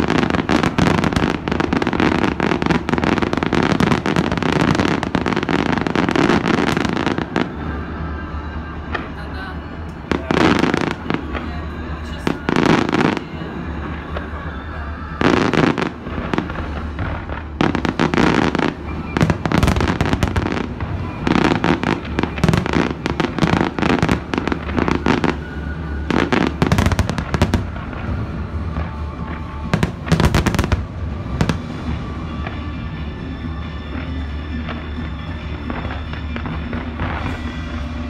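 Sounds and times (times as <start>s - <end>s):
fireworks bangs and crackle: 0.0s - 38.0s
music playing: 0.0s - 38.0s.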